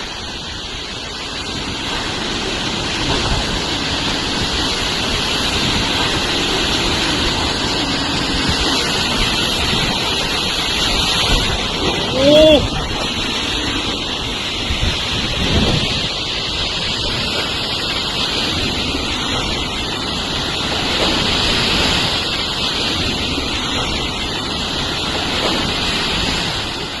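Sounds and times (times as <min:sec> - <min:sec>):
heavy rain hiss: 0:00.0 - 0:27.0
wind buffeting microphone: 0:00.0 - 0:27.0.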